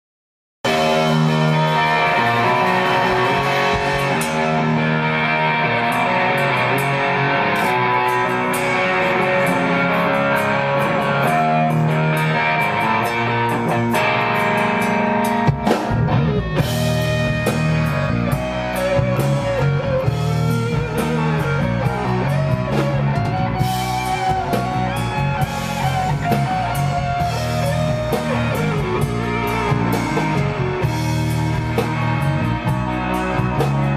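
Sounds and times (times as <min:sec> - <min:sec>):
rock band playing: 0:00.6 - 0:33.9
drum and cymbal hits: 0:00.7 - 0:05.2, 0:05.9 - 0:33.9.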